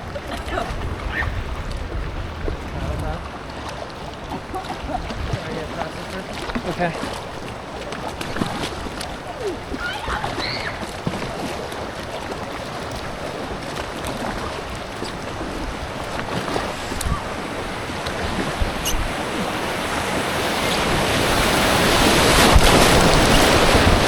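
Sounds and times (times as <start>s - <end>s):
whitewater rushing: 0.0s - 24.0s.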